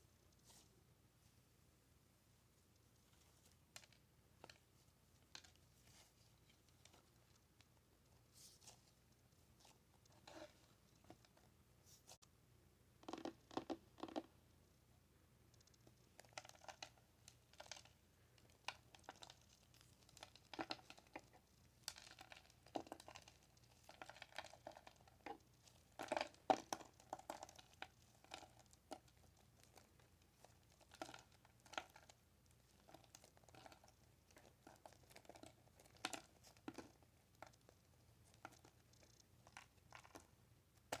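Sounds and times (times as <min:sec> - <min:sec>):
crinkling and scratching material: 0:00.0 - 0:01.4, 0:02.6 - 0:12.3, 0:15.6 - 0:41.0.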